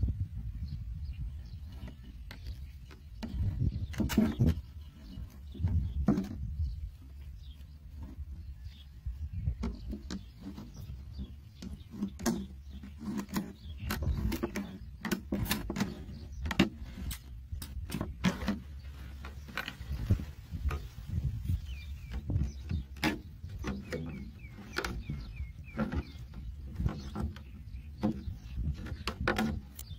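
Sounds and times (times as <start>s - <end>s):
wind on microphone: 0.0s - 29.9s.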